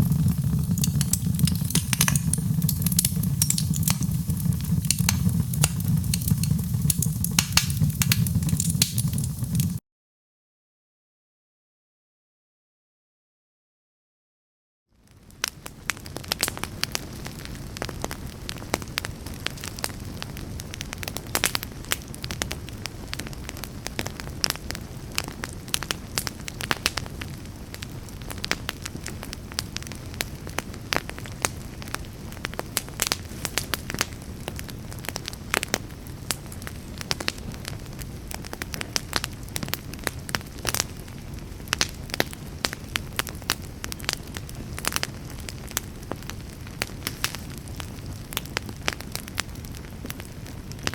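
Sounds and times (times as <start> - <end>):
fire crackling and popping: 0.0 - 9.8, 15.0 - 50.9
low rumble of flames: 0.0 - 9.8, 15.0 - 50.9.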